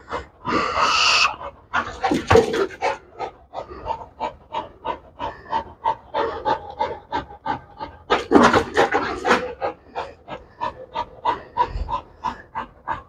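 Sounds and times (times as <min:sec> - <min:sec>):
dog panting fast: 0:00.0 - 0:13.0.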